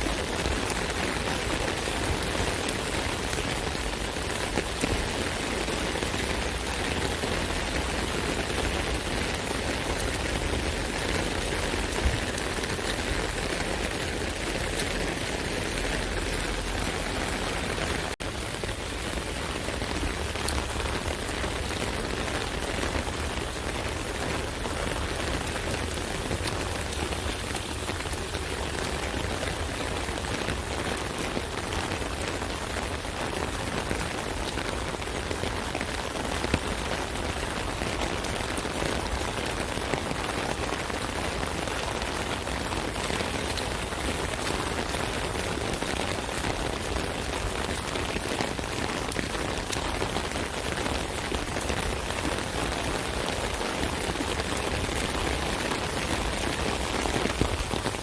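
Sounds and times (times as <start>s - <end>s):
rain drumming on an umbrella: 0.0s - 58.0s.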